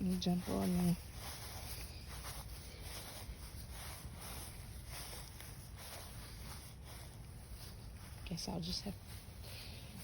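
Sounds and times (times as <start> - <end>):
faint footsteps: 0.0 - 10.0
low outdoor rumble: 0.0 - 10.0.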